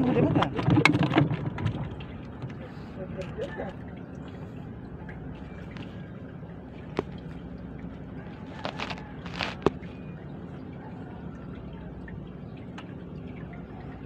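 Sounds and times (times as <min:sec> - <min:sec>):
steady low hum: 0:01.6 - 0:14.0.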